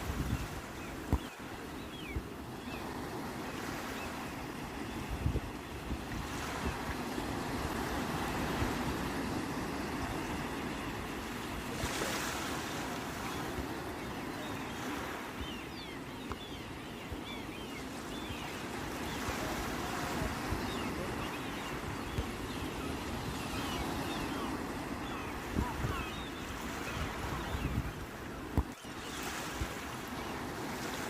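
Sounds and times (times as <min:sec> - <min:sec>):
sea waves washing onto shore: 0:00.0 - 0:15.6, 0:17.9 - 0:31.0.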